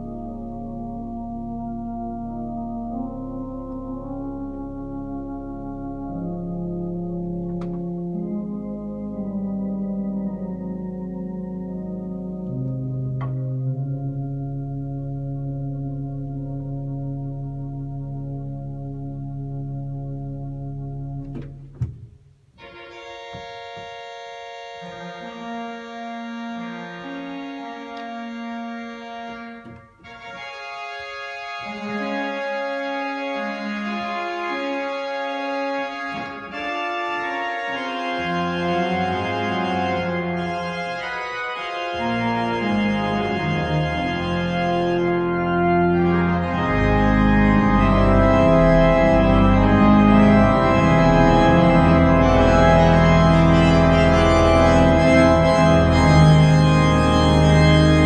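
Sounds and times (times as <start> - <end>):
church organ playing held chords: 0.0 - 58.0
deep organ pedal bass notes: 0.0 - 58.0.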